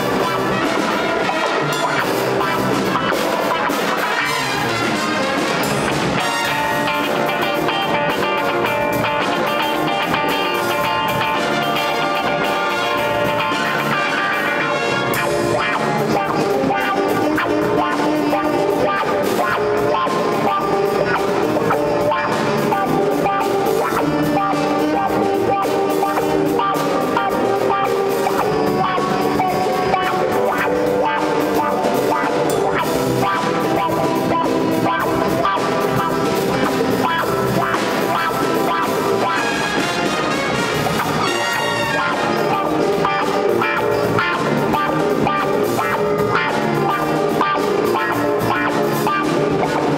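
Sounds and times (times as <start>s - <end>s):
jazz ensemble playing funk: 0.0s - 49.9s.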